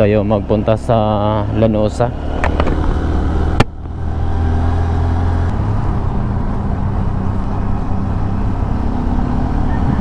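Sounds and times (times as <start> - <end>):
road and wind noise: 0.0 - 10.0
vehicle engine humming: 0.0 - 10.0.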